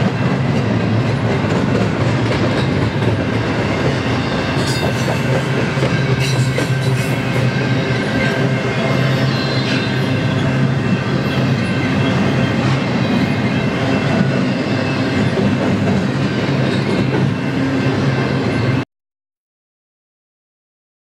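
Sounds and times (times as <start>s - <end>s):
freight train wheels on rail: 0.0s - 18.8s.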